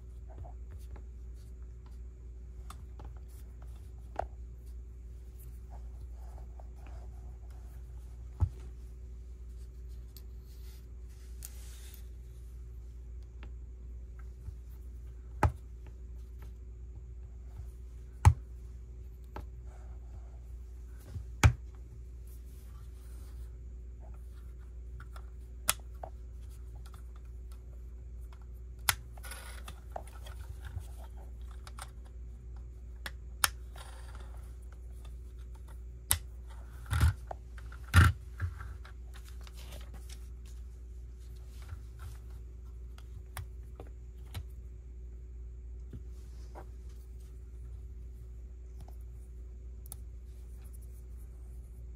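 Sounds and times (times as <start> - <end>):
faint hum: 0.0 - 51.9.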